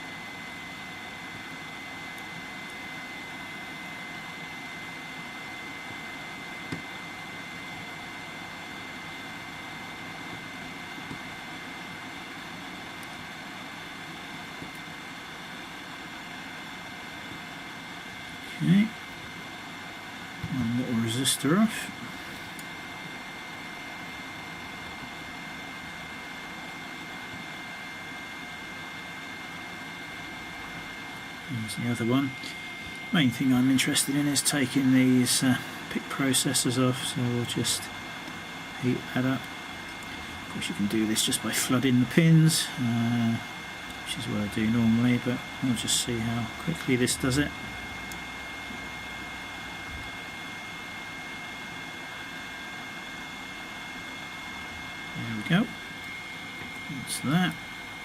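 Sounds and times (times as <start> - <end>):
hot air blower with fan whine: 0.0 - 58.0.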